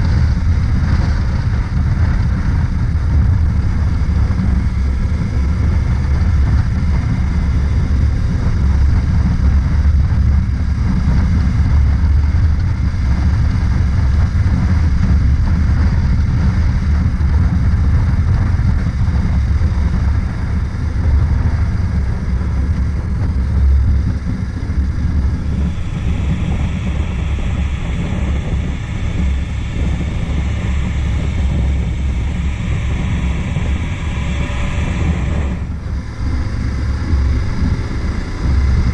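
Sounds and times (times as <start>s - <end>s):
motorcycle engine rumble: 0.0s - 38.9s
wind buffeting microphone: 0.0s - 38.9s.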